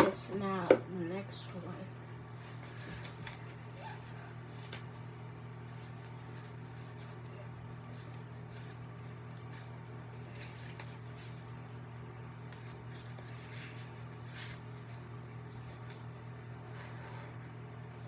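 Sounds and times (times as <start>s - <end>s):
appliance hum: 0.0s - 18.0s.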